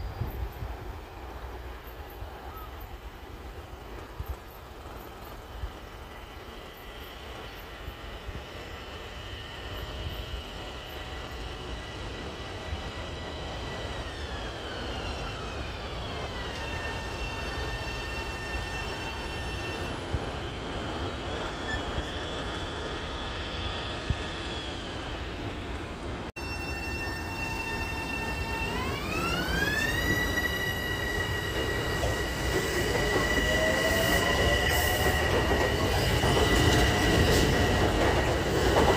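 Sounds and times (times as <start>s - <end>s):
high whine of train: 0.0s - 38.9s
train rumble: 0.0s - 38.9s.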